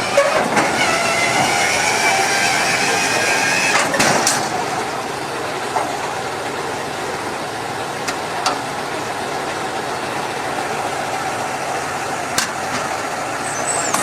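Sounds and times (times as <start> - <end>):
dump truck engine running: 0.0 - 14.0.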